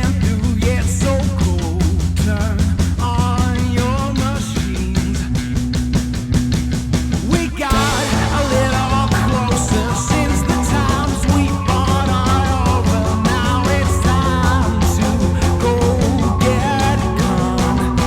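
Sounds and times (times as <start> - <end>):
rock music with singing: 0.0 - 18.0.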